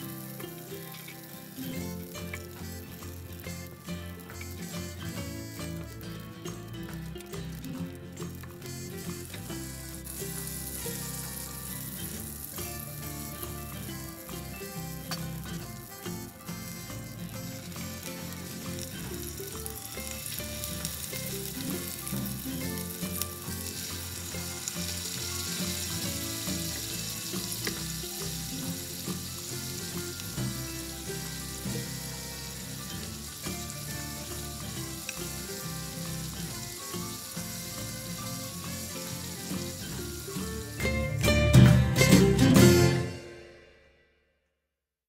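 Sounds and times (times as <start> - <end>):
fish sizzling in a pan: 0.0 - 41.3
background music: 0.0 - 44.1.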